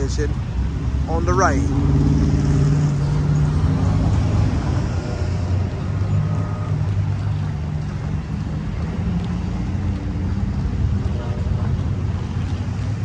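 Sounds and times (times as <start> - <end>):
diesel locomotive droning: 1.1 - 12.5.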